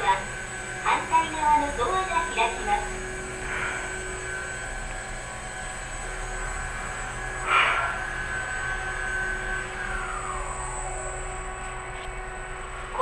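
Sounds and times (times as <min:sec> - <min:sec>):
train motor whining: 0:00.0 - 0:13.0.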